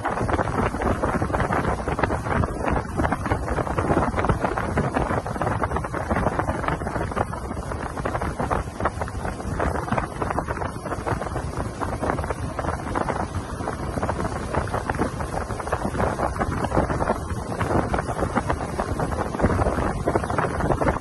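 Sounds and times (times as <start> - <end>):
water rushing past boat hull: 0.0 - 21.0
wind buffeting microphone: 0.0 - 21.0.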